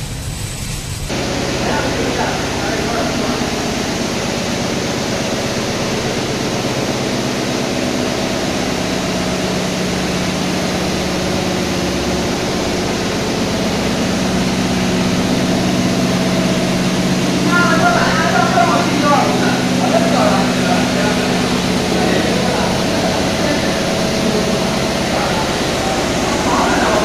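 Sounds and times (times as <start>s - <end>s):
industrial machinery running: 0.0s - 27.0s.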